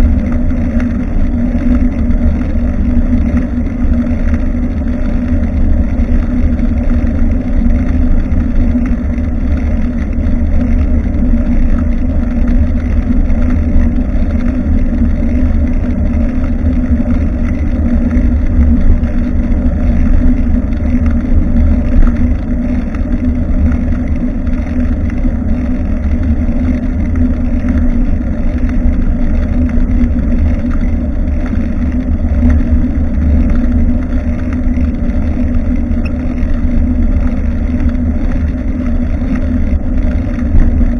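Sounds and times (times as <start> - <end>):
road rumble: 0.0 - 40.9.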